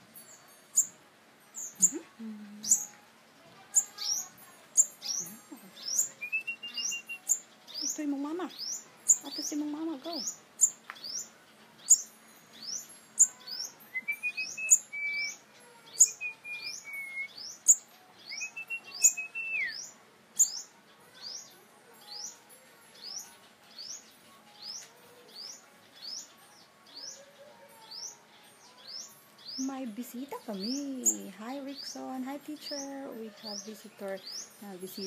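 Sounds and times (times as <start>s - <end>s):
songbird high chirps: 0.2s - 3.0s, 3.7s - 35.0s.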